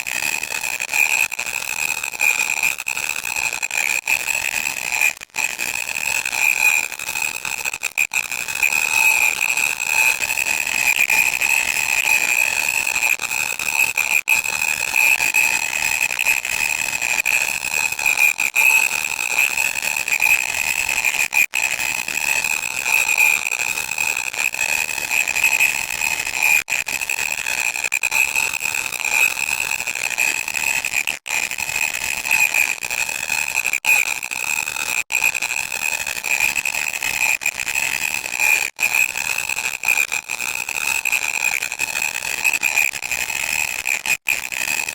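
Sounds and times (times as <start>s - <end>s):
harsh static noise: 0.0s - 44.9s.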